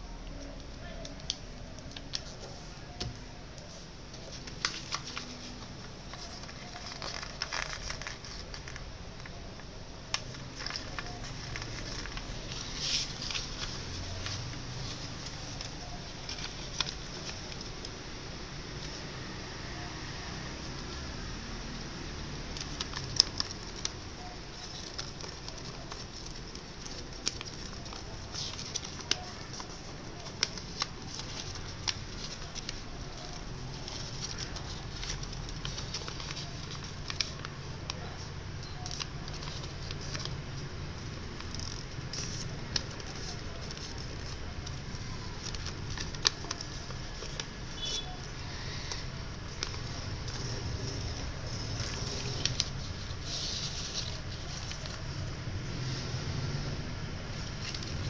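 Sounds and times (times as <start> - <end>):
paper crackling and rustling: 0.3 - 58.0.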